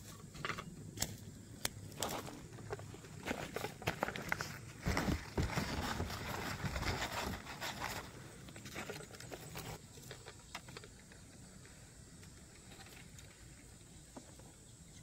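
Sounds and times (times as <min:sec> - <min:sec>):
rustling of vegetation: 0:00.0 - 0:15.0.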